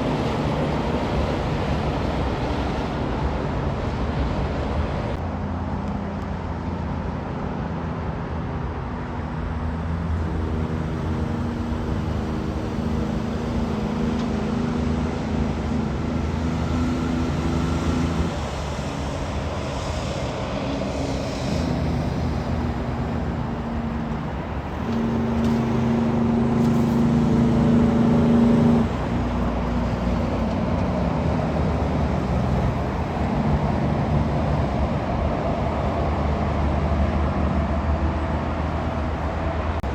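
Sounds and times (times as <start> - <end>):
traffic noise: 0.0 - 39.9
trucks passing: 0.0 - 39.9.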